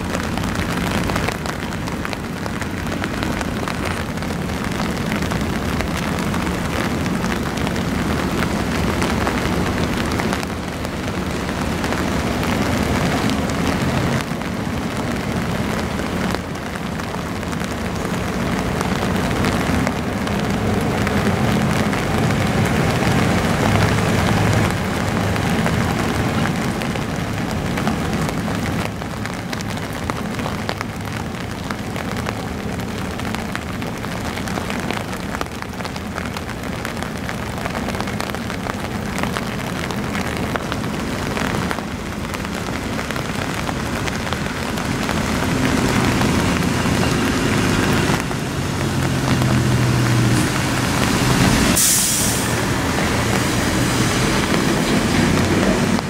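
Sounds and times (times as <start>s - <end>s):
rain hissing: 0.0s - 56.0s.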